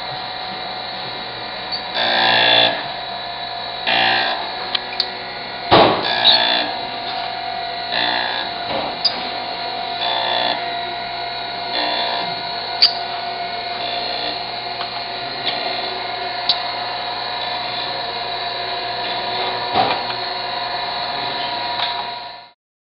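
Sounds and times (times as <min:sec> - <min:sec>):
grinder wheel grinding metal: 0:00.0 - 0:22.5.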